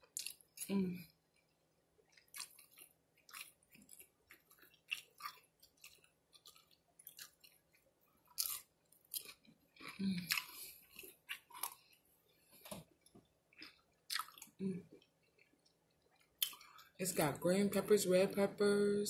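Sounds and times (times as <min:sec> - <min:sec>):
crunchy food chewing: 0:00.0 - 0:17.0.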